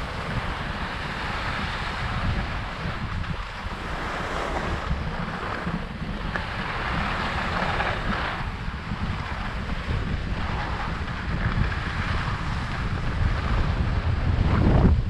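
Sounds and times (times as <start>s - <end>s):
skis sliding over snow: 0.0s - 15.0s
wind rushing over microphone: 0.0s - 15.0s.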